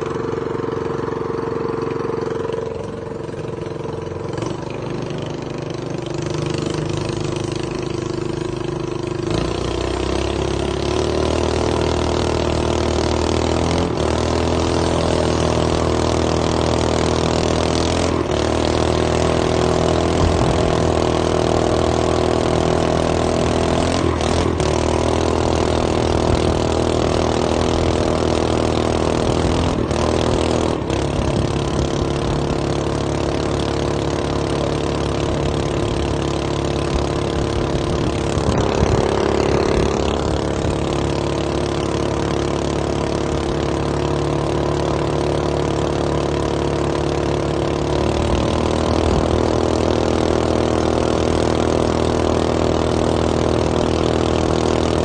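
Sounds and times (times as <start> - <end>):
boat motor running hard: 0.0 - 55.0.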